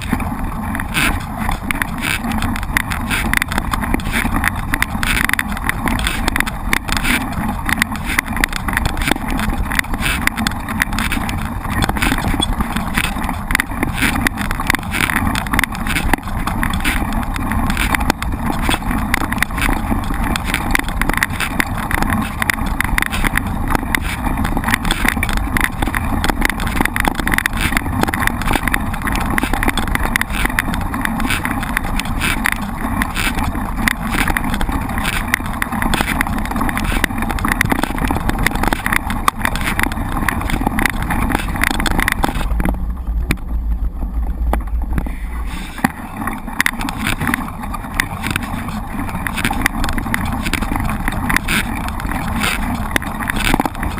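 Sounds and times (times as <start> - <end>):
bike rattling on rough trail: 0.0 - 53.9.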